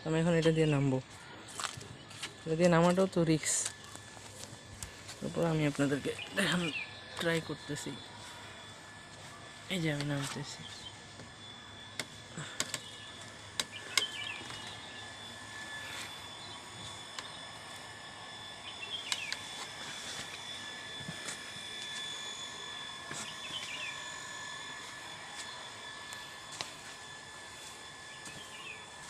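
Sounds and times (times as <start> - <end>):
high-pitched ringing: 0.0 - 29.0.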